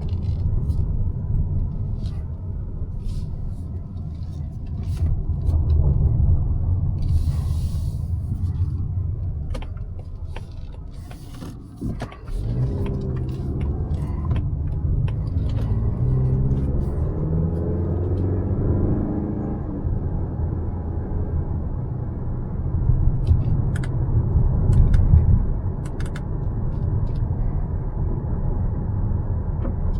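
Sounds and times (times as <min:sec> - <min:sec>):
car engine accelerating: 0:00.0 - 0:29.9
road rumble: 0:00.0 - 0:29.9.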